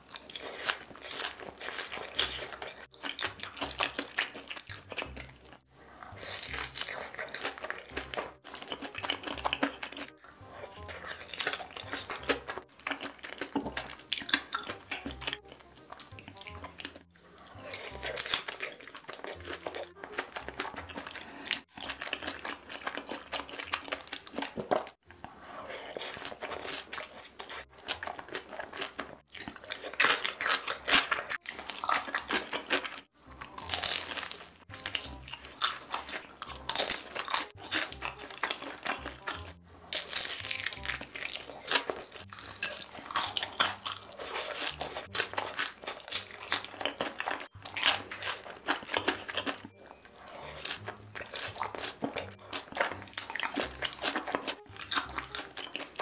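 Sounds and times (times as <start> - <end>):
crunching and chewing fried chicken: 0.0 - 56.0.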